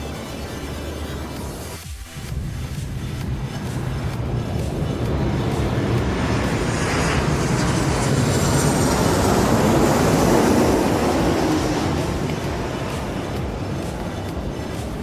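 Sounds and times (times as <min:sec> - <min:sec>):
high jet engine whine: 0:00.0 - 0:15.0
jet airliner passing by: 0:00.0 - 0:15.0.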